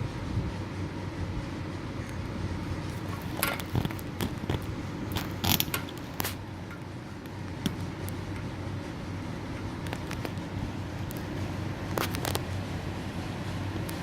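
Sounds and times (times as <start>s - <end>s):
low hum of city traffic: 0.0s - 14.0s.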